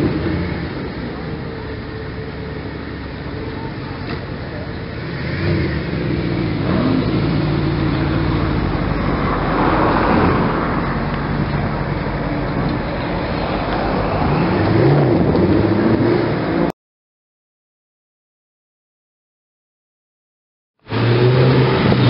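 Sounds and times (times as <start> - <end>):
car engine pulling away: 0.0 - 16.7, 20.9 - 22.0.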